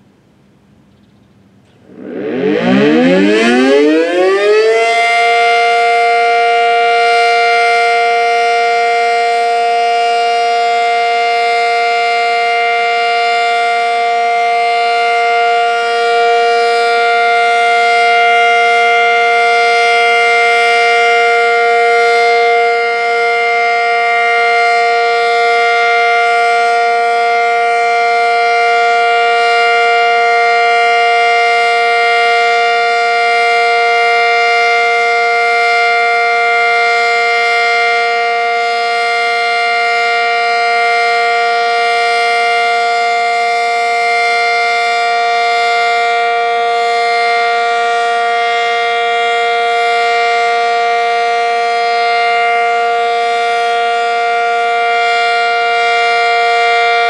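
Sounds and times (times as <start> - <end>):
loud steady siren: 0.0 - 57.0.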